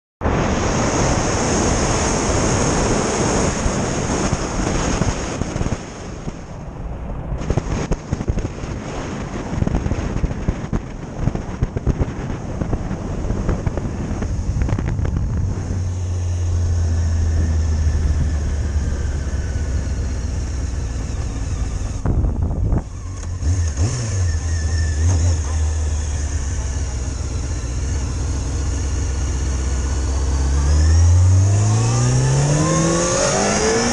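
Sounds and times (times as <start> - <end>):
road noise: 0.2 - 33.9
rushing wind: 0.2 - 33.9
motorcycle engine: 0.8 - 33.9.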